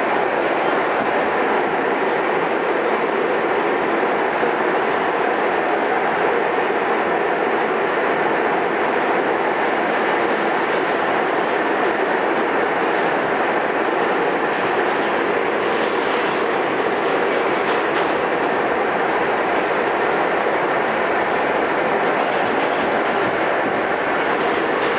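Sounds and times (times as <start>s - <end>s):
subway car wheels on rails: 0.0s - 24.9s.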